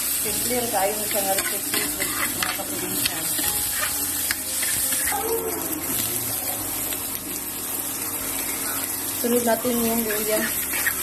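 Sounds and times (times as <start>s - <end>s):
onion and garlic sizzling in oil: 0.0s - 11.0s.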